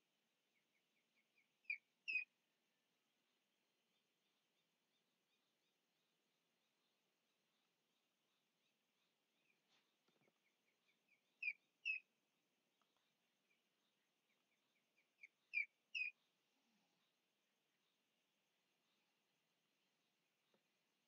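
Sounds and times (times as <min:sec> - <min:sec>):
bird singing: 0:00.5 - 0:12.1, 0:12.7 - 0:21.0.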